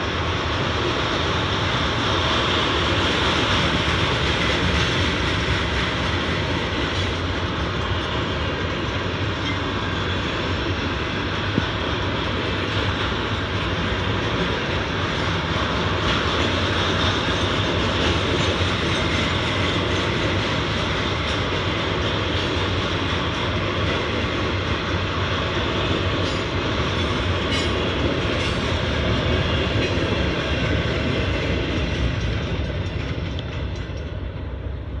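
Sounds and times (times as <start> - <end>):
train wheels rumbling and rattling: 0.0 - 35.0.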